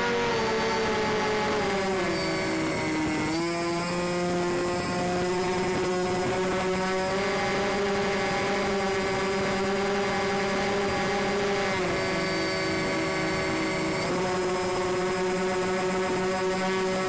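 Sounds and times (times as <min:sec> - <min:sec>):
model airplane motors droning: 0:00.0 - 0:17.0.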